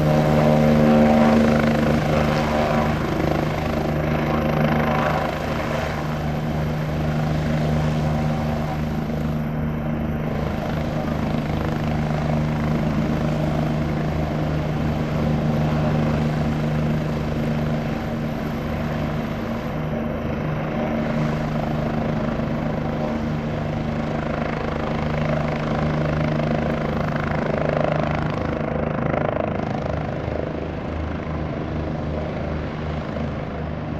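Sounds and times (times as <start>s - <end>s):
helicopter engine hum: 0.0s - 33.9s
helicopter rotor beat: 0.0s - 33.9s.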